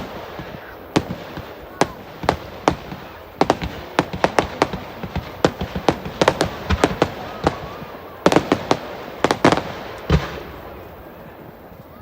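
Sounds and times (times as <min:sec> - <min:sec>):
fireworks cracking: 0:00.0 - 0:12.0.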